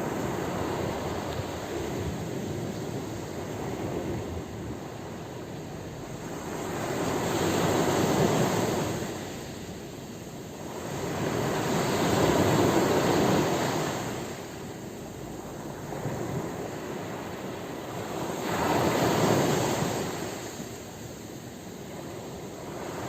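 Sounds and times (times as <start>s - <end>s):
sea waves breaking: 0.0s - 21.0s.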